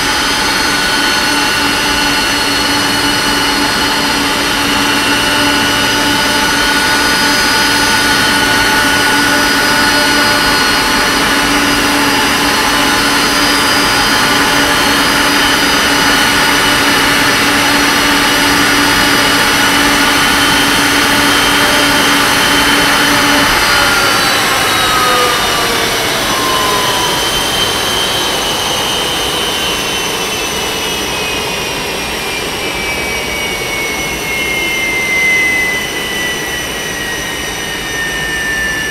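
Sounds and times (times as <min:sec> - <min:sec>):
jet engines idling: 0:00.0 - 0:38.9
low hum: 0:00.0 - 0:38.9.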